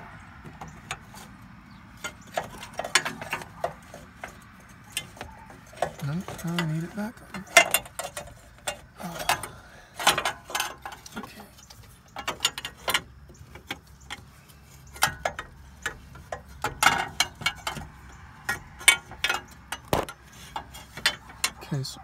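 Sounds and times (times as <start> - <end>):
metal tube clicking and scraping: 0.5 - 21.6.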